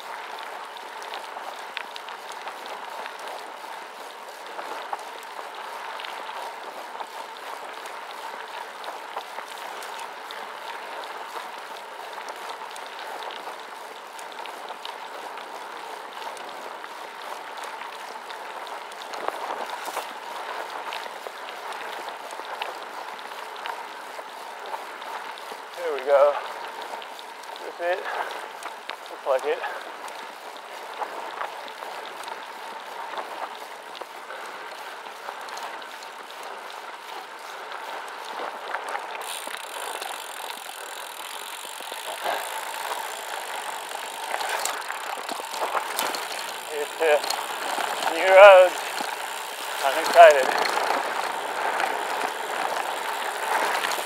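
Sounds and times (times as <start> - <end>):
bike tyres crunching on dirt: 0.0 - 54.0
stones clicking and bike rattling: 0.0 - 54.0.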